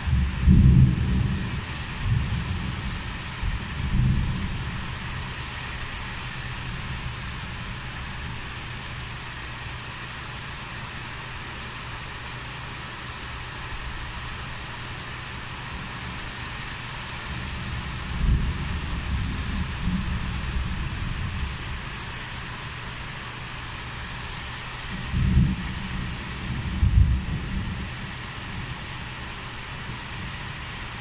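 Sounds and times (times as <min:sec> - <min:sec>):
heavy rain and wind: 0:00.0 - 0:31.0.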